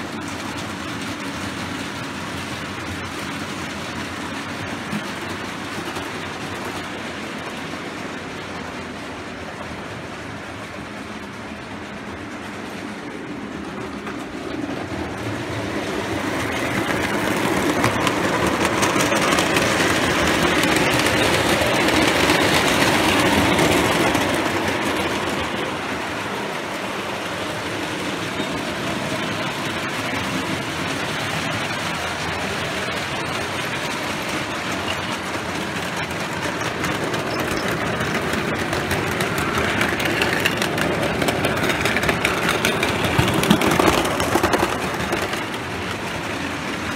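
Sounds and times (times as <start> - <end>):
model train wheels clattering: 0.0 - 46.9.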